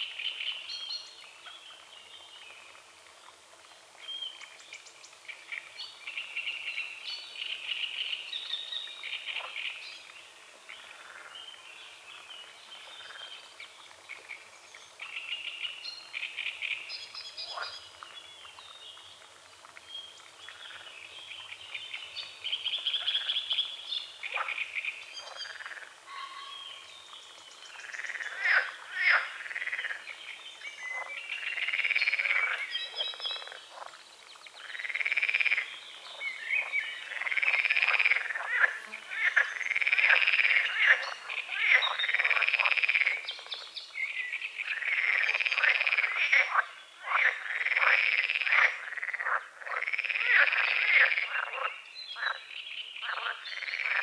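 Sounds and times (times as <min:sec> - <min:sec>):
songbirds chirping: 0:00.0 - 0:54.0
frogs croaking: 0:08.9 - 0:18.6, 0:20.4 - 0:54.0.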